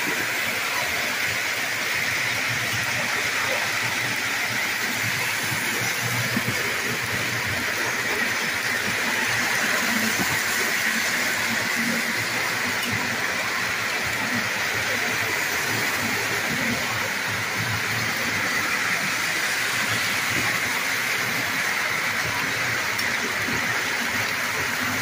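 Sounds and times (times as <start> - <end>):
toy trains whirring on track: 0.0 - 25.0.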